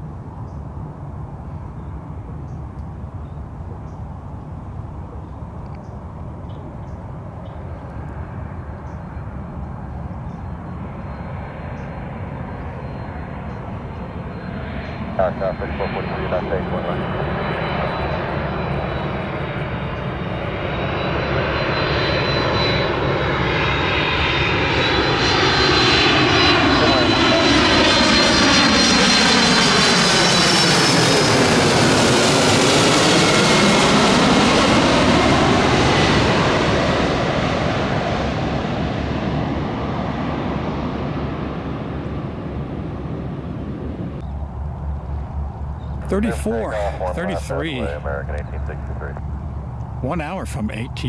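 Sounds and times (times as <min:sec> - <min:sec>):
jet passing low overhead: 0:00.0 - 0:51.0.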